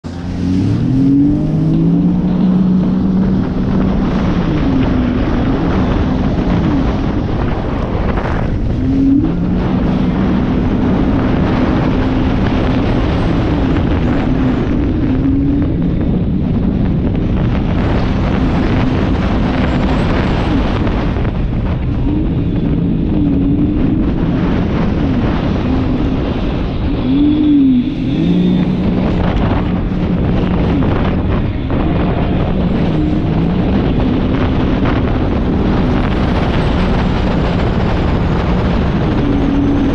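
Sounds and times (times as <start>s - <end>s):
jet ski engine running: 0.0s - 39.9s
wind: 0.0s - 39.9s.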